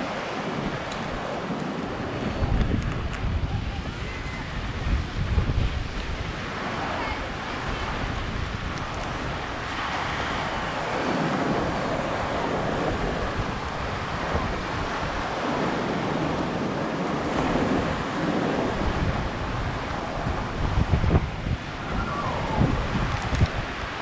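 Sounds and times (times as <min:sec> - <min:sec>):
surf breaking on beach: 0:00.0 - 0:24.0
wind rumbling on microphone: 0:00.0 - 0:24.0.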